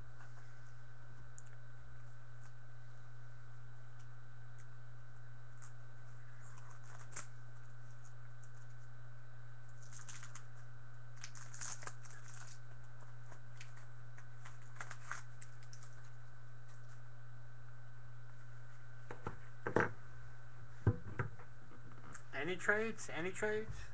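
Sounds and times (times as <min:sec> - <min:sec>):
faint high whine: 0:00.0 - 0:23.9
steady low hum: 0:00.0 - 0:23.9.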